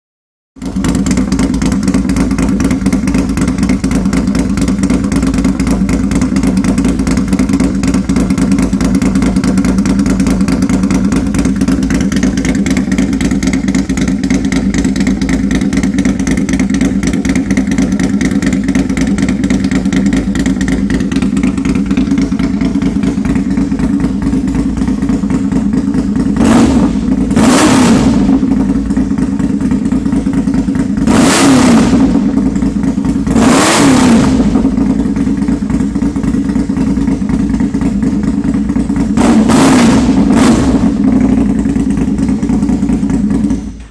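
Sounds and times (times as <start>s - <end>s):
atv engine idling and revving: 0.6s - 43.9s.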